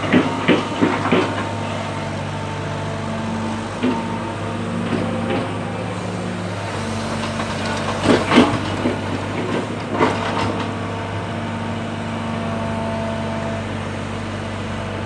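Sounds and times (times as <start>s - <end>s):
excavator clanks and scrapes: 0.0s - 15.0s
excavator diesel engine running: 0.0s - 15.0s.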